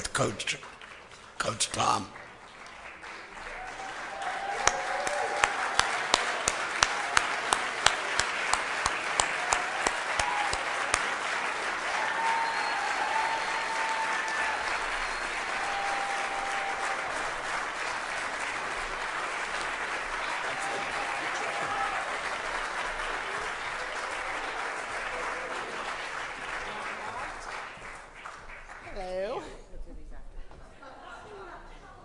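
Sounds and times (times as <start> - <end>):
audience applauding: 0.0 - 29.4
loud close hand claps: 2.2 - 28.9.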